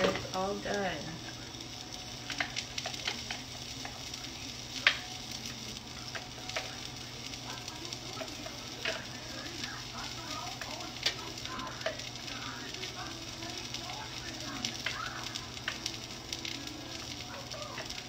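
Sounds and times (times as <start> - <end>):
food sizzling in a frying pan: 0.0 - 18.0
utensil stirring with clicks: 0.0 - 18.0.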